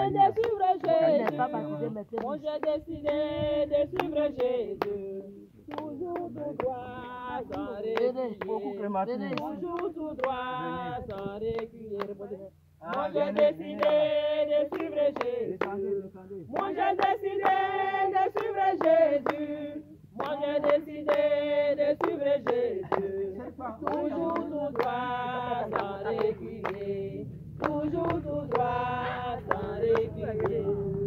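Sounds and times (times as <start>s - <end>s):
hand clapping on the beat: 0.0s - 8.7s, 9.3s - 12.2s, 12.8s - 30.8s
group singing without instruments: 0.0s - 31.0s.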